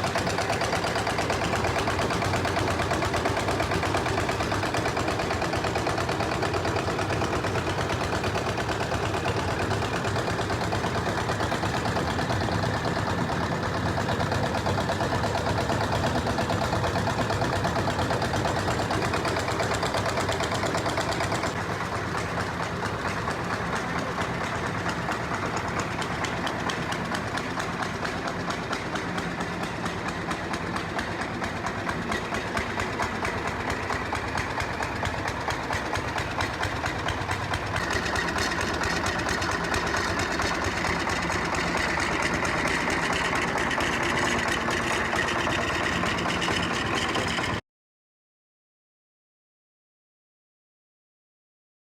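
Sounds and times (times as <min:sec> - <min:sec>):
diesel engine chugging: 0:00.0 - 0:47.6
mill machinery noise: 0:00.0 - 0:47.6.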